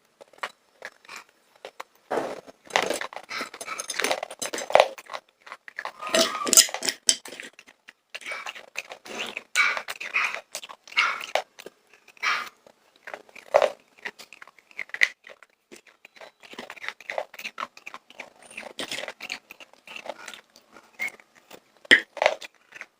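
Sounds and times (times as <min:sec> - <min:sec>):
popcorn crunching and chewing: 0:00.0 - 0:22.9.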